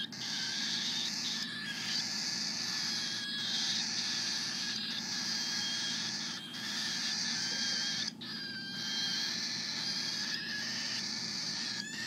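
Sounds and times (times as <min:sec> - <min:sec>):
cockatiel chicks begging hiss: 0:00.0 - 0:12.0.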